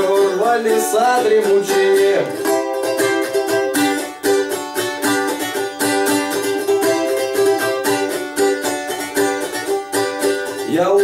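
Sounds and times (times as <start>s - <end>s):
balalaika strumming: 0.0s - 11.0s.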